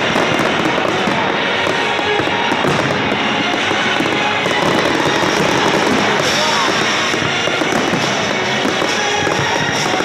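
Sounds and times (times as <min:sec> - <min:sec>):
fireworks bursting and crackling: 0:00.0 - 0:10.0
music: 0:00.0 - 0:10.0.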